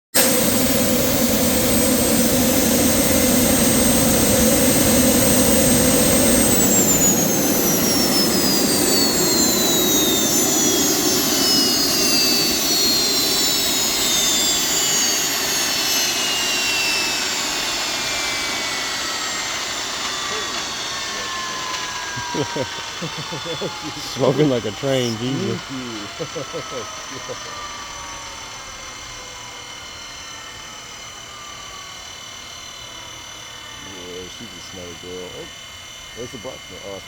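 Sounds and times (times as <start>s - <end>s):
gas turbine whining and spooling down: 0.1s - 37.0s.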